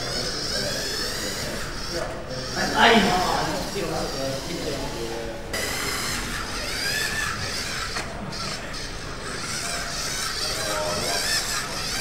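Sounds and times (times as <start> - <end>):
small electric motors whining: 0.0 - 12.0.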